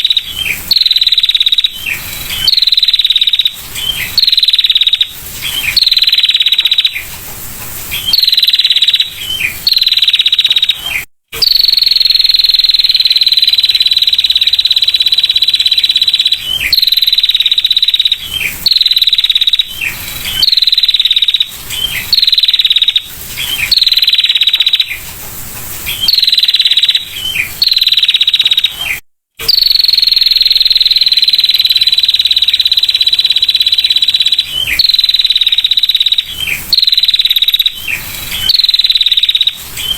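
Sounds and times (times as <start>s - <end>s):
bird buzzy trills: 0.0s - 7.1s, 7.8s - 25.1s, 25.8s - 39.9s.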